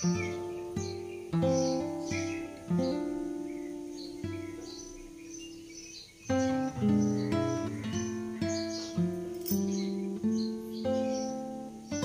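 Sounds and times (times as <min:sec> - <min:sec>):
faint bird-like chirps: 0:00.0 - 0:12.0
soft acoustic guitar music: 0:00.0 - 0:12.0.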